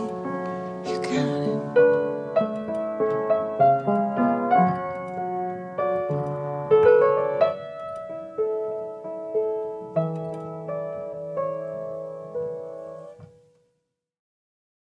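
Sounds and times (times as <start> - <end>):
slow solo piano melody: 0.0 - 13.6.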